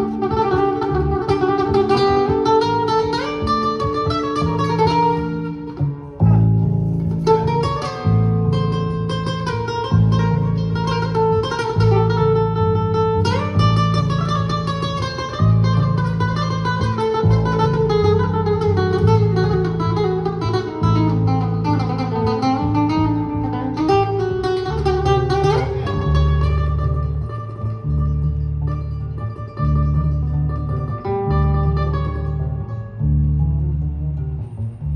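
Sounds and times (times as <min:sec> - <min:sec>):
double bass notes: 0:00.0 - 0:34.9
picked acoustic guitar: 0:00.0 - 0:34.9.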